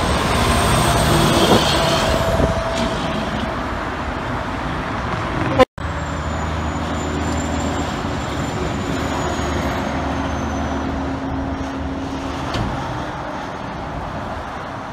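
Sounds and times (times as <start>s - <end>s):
road traffic noise: 0.0s - 14.9s.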